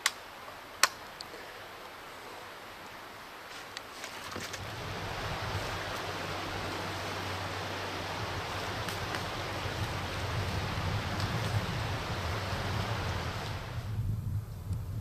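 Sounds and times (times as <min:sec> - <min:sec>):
creek water flowing: 0:00.0 - 0:13.9.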